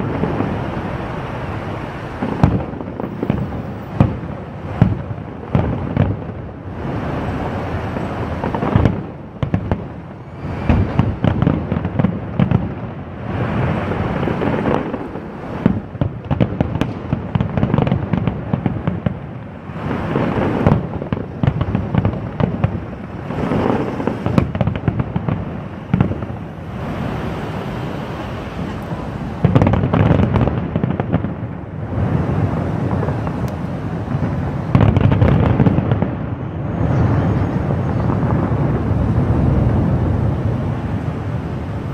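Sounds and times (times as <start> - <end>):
fireworks booming: 0.0 - 41.9.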